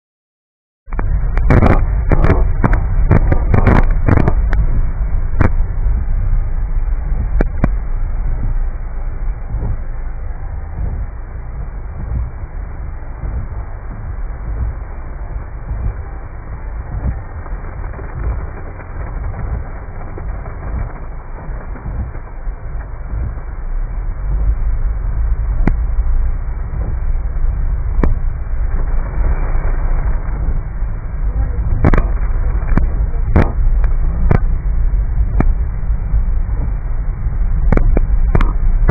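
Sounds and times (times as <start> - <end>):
low rumble inside car: 0.9 - 38.9
rain and spray hiss: 1.0 - 38.9.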